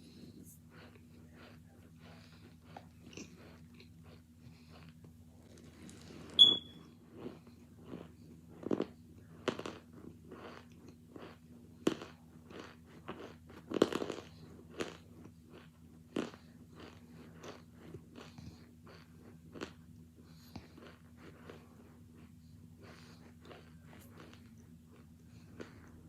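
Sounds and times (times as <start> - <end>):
mouth crunching and chewing: 0.0 - 26.0.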